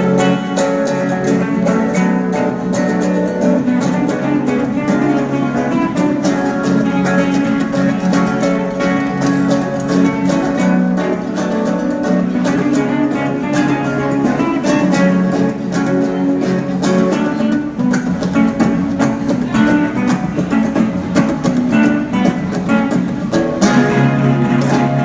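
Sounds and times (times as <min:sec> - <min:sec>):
acoustic guitar plucked and strummed: 0:00.0 - 0:25.0.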